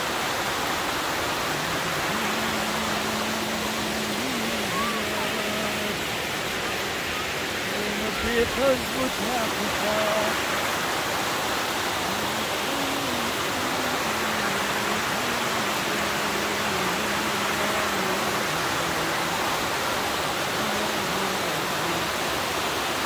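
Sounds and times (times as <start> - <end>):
water rushing over dam spillway: 0.0 - 23.0.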